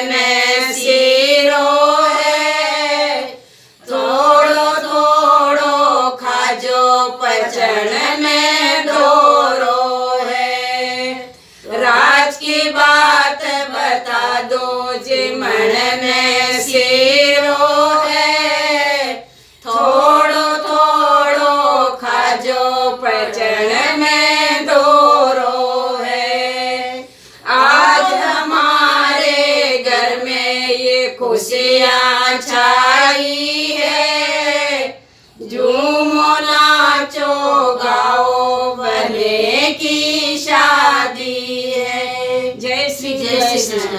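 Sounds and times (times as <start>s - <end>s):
women singing unaccompanied folk song: 0.0s - 43.9s.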